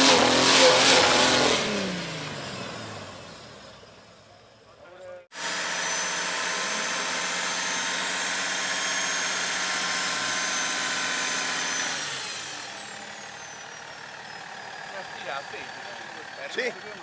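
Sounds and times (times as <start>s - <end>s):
engine revving with high whine: 0.0s - 4.4s, 5.4s - 16.4s.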